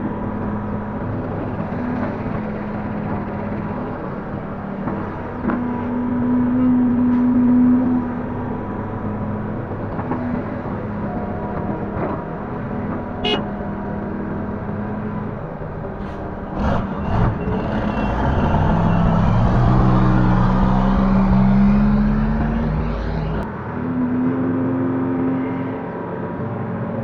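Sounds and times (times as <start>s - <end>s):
excavator diesel engine revving: 0.0s - 23.5s.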